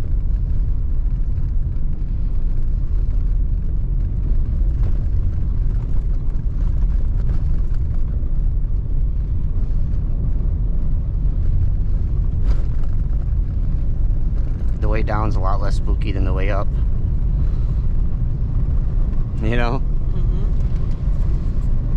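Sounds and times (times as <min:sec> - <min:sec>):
car driving on gravel: 0:00.0 - 0:21.9.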